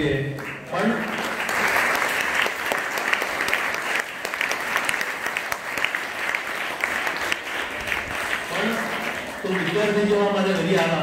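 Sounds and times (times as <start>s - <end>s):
audience applauding: 0.4s - 11.0s.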